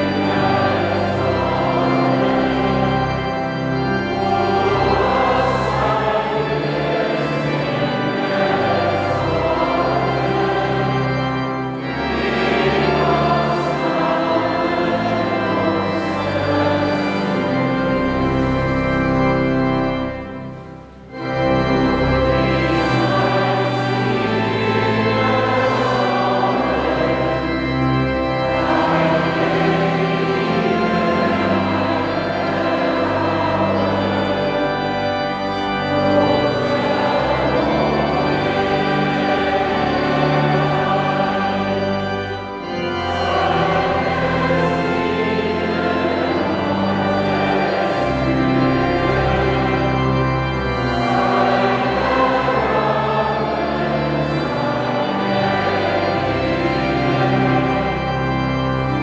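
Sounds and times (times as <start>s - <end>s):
church organ: 0.0s - 59.0s
voices singing a hymn: 0.0s - 59.0s.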